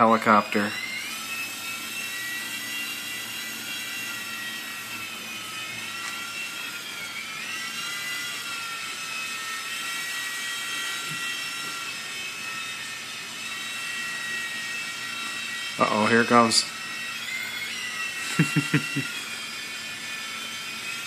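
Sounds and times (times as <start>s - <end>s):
rc helicopter rotors whining: 0.0s - 21.0s.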